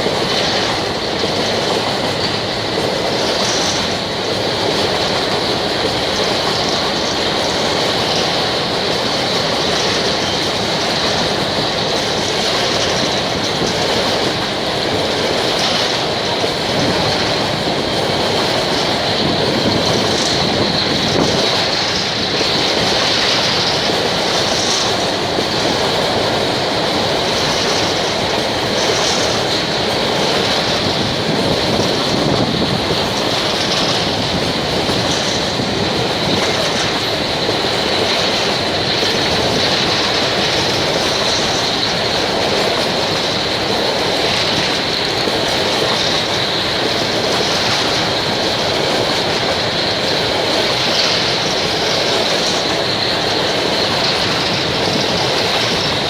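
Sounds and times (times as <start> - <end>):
freight train rolling past: 0.0 - 56.0
high squeal of wheels on rails: 0.0 - 56.0
wheels clacking over rail joints: 0.0 - 56.0.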